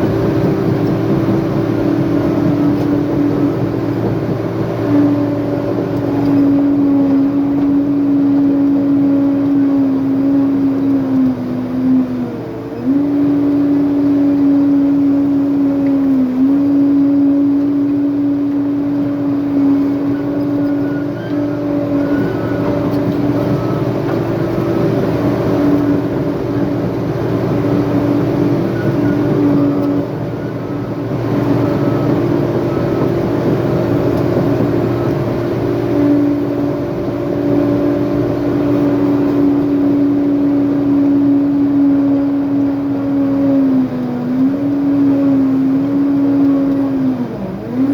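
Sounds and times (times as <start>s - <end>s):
earthmoving machine diesel engine: 0.0s - 47.9s.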